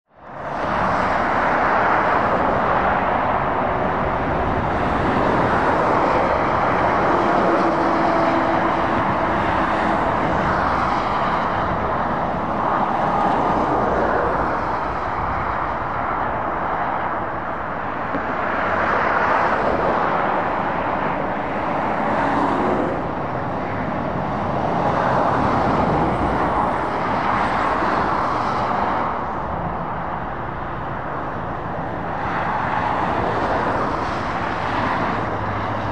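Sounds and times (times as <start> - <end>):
lorries and cars passing: 0.1 - 35.9.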